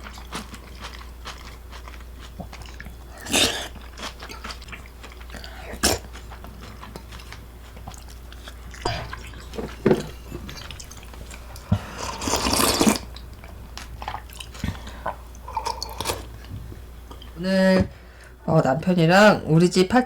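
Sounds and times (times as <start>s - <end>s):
chewing and biting: 0.0s - 16.5s.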